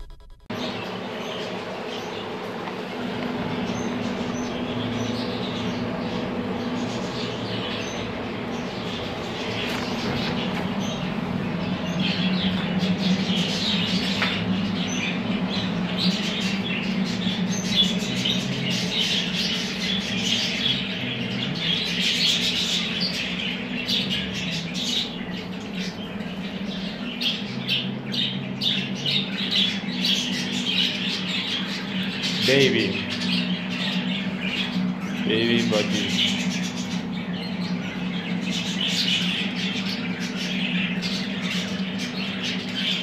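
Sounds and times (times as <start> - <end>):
steady low hum: 0.0 - 43.0
budgerigars chattering and squawking: 3.2 - 43.0.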